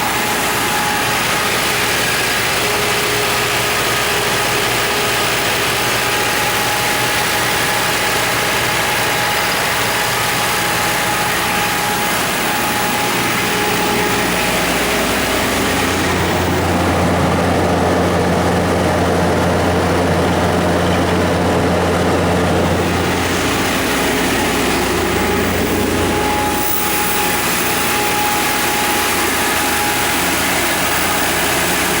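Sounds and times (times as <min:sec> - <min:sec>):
diesel generator running: 0:00.0 - 0:32.0.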